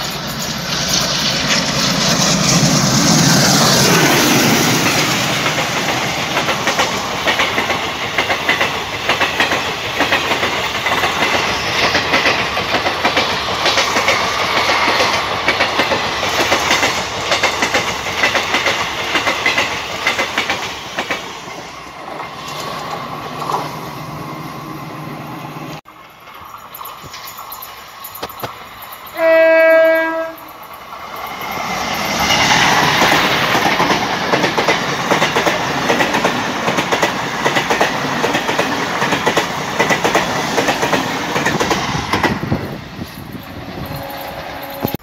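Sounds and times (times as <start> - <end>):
train wheels clacking over rail joints: 0.0 - 23.7, 25.9 - 45.0
diesel locomotive passing: 0.0 - 45.0.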